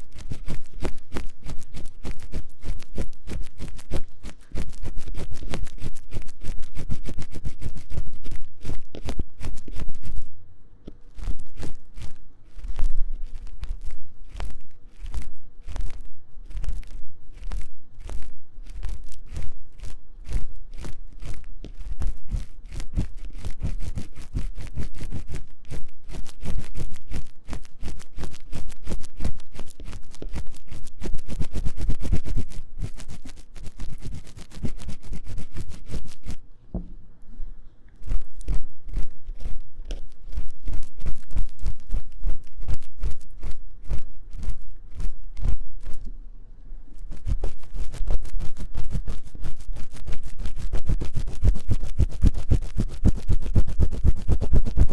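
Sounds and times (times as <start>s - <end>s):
ear-cleaning tool scratching: 0.0s - 10.3s, 11.1s - 36.4s, 38.0s - 46.1s, 46.9s - 54.9s.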